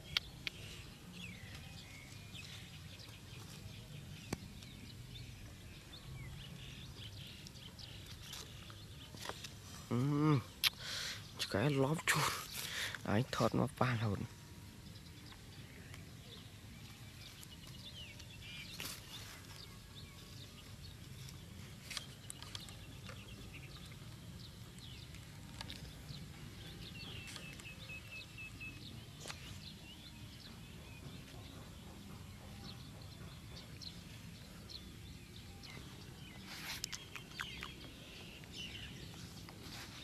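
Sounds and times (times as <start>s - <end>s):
bird chirps: 0.0s - 40.0s.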